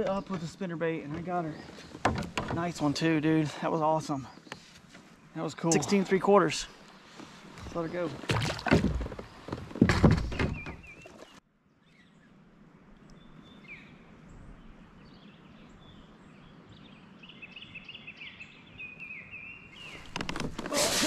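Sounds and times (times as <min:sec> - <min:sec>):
birds chirping: 0:00.0 - 0:12.3, 0:13.0 - 0:21.0
steady outdoor hiss: 0:00.0 - 0:21.0.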